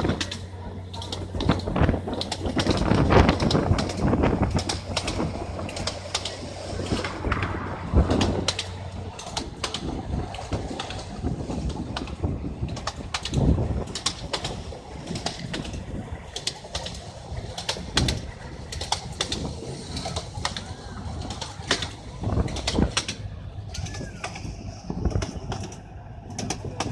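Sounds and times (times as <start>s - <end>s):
sharp clicks and knocks: 0.0s - 26.9s
steady low rumble: 0.0s - 26.9s.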